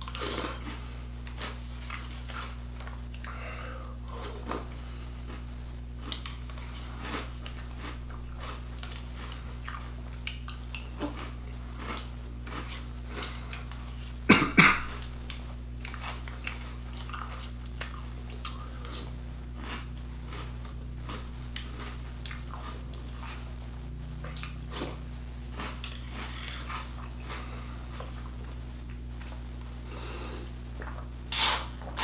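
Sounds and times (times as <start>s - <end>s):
person chewing crunchy cereal: 0.0s - 14.2s, 14.8s - 32.0s
steady low hum: 0.0s - 32.0s.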